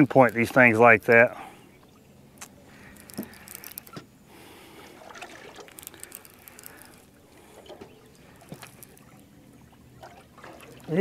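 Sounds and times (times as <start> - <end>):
water lapping against boat: 1.2 - 11.0.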